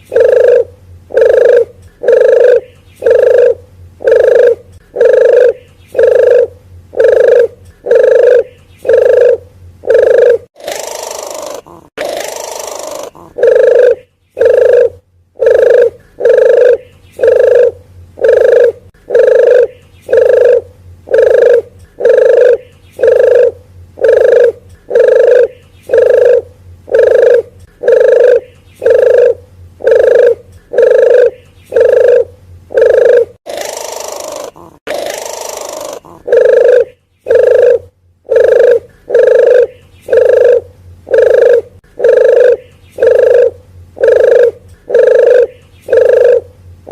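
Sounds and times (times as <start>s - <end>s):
dove lure coo call: 0.0s - 46.9s.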